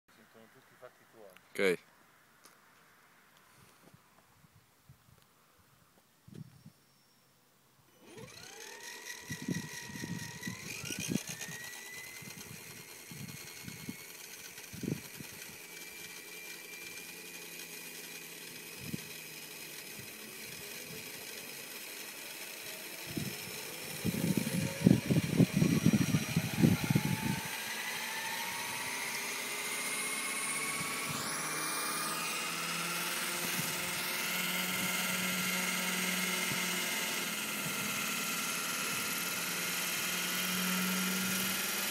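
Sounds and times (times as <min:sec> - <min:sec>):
model helicopter motor whine: 0:07.9 - 0:41.9.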